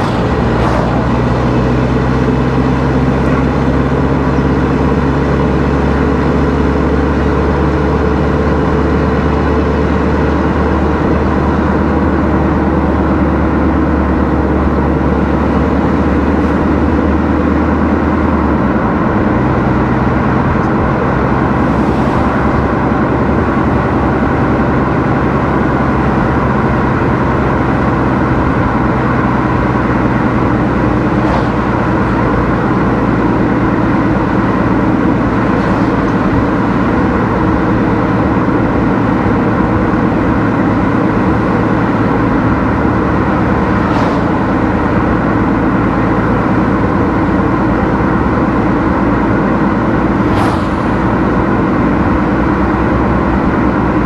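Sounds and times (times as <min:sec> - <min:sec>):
car engine hum: 0:00.0 - 0:54.0
road noise: 0:00.0 - 0:54.0.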